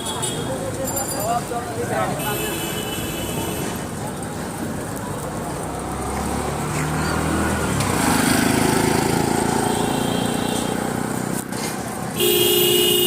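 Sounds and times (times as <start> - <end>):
vehicle engines in street traffic: 0.0 - 13.0.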